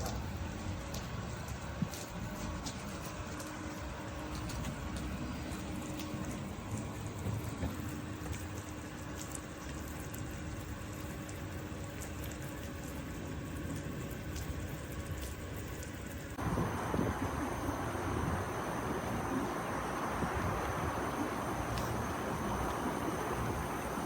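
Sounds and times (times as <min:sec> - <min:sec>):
pool water running and lapping: 0:00.0 - 0:24.0.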